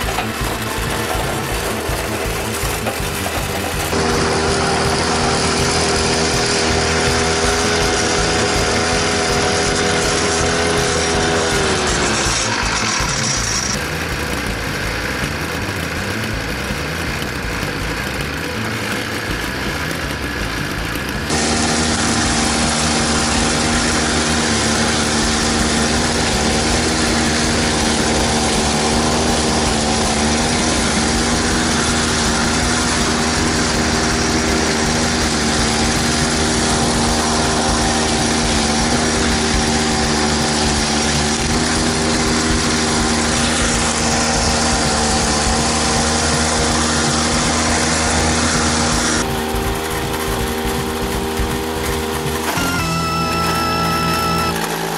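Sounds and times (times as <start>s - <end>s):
small petrol engine running: 0.0s - 54.9s.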